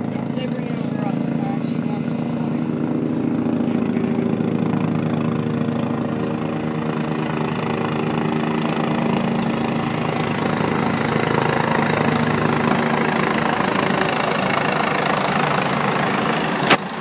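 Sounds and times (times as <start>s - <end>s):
helicopter rotor beating: 0.0s - 17.0s
turbine engine whine: 0.0s - 17.0s.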